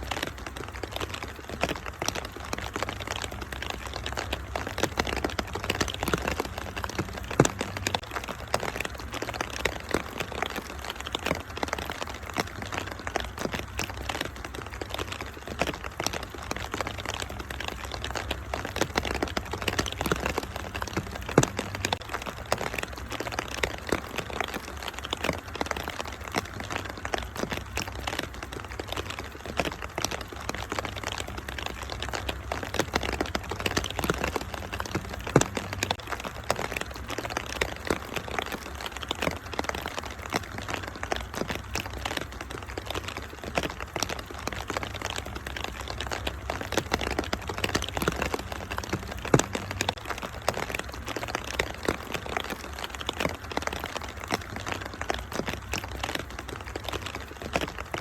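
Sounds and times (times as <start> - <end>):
rain hiss: 0.0 - 58.0
wood fire crackling: 0.0 - 58.0.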